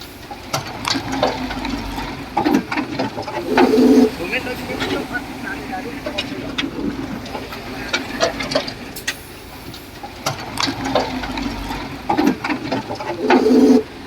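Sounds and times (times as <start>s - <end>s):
diesel engine humming: 0.0s - 14.0s
steel tracks clanking: 0.0s - 14.0s.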